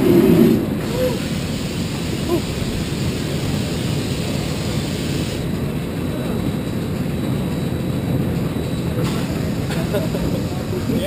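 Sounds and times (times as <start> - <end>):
roller coaster car rumbling: 0.0 - 11.0.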